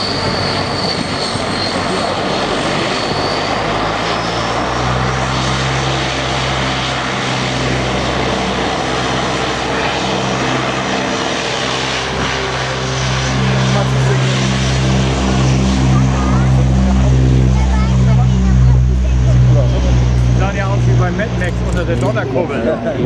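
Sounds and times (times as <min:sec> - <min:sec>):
turboprop propeller drone: 0:00.0 - 0:23.0.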